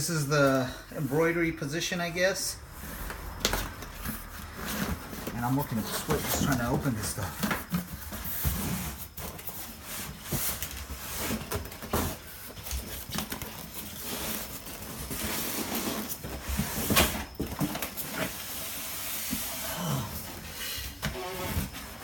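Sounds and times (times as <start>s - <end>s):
packaging rustling and crinkling: 2.6s - 22.0s.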